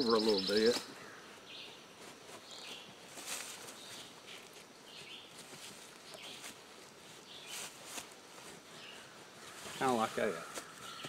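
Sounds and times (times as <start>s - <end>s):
fabric rustling on rope: 1.9s - 11.0s.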